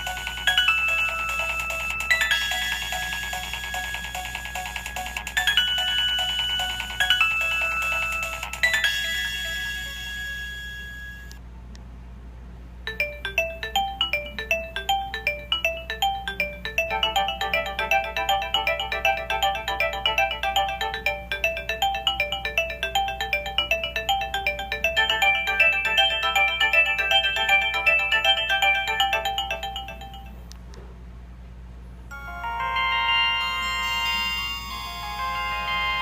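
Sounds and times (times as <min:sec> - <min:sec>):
mobile phone ringtone melody: 0:00.0 - 0:11.4, 0:12.9 - 0:30.5, 0:32.1 - 0:36.0.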